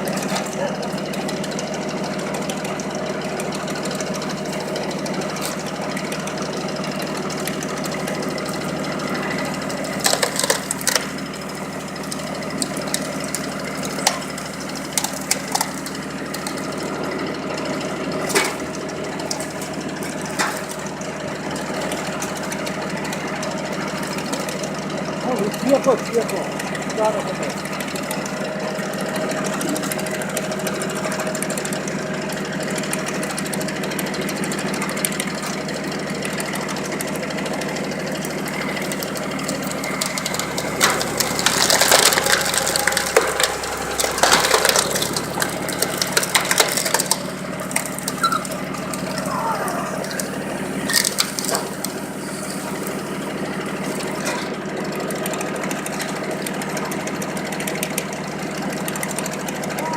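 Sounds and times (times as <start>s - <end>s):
tractor engine running: 0.0s - 59.9s
wood crunching and cracking: 3.4s - 56.5s.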